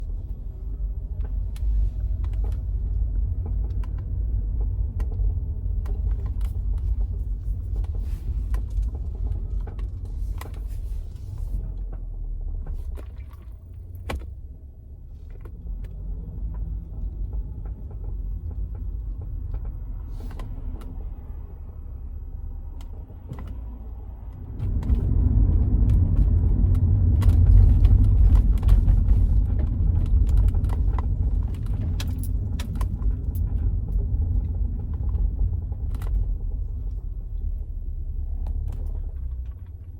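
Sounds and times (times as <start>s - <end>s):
steady low rumble: 0.0s - 39.9s
suspension creaking and clicking: 0.0s - 39.9s.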